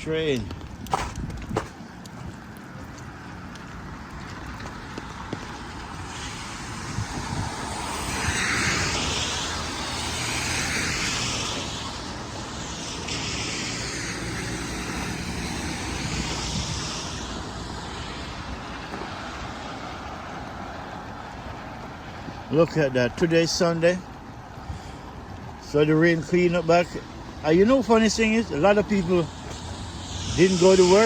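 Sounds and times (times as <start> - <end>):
low traffic rumble: 0.0 - 31.0
cars hissing on wet street: 1.7 - 31.0.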